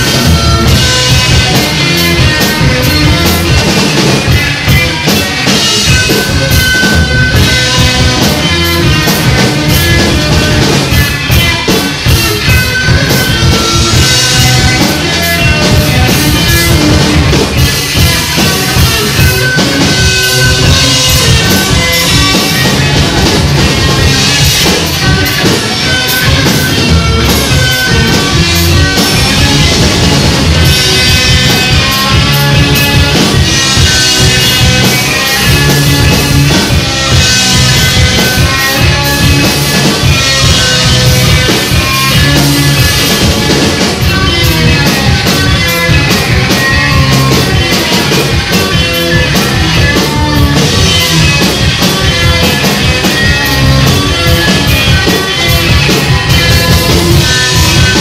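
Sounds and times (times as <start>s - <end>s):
drum kit beat: 0.0s - 58.0s
loud rock music: 0.0s - 58.0s.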